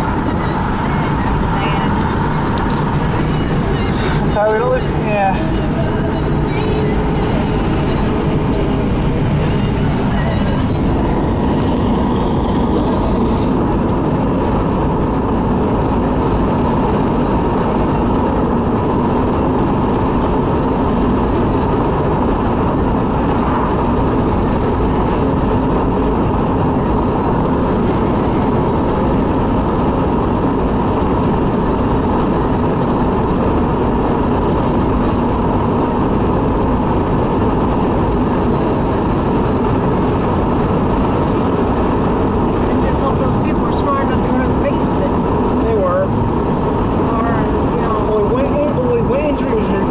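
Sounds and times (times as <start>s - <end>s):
car road and engine noise: 0.0s - 49.9s.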